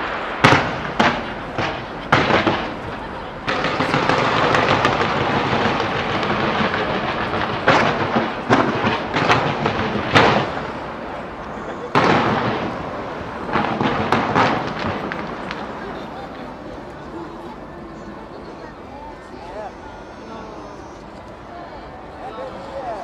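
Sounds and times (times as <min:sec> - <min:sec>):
fireworks bangs: 0:00.0 - 0:23.0
fireworks crackle: 0:00.0 - 0:23.0.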